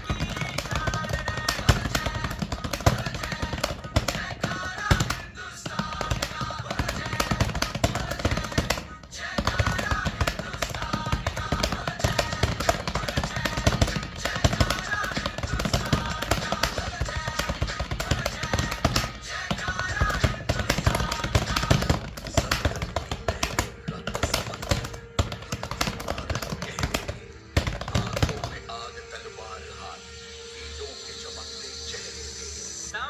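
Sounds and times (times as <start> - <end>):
fast typing on keyboard: 0.0 - 28.6
music playing: 0.0 - 33.0.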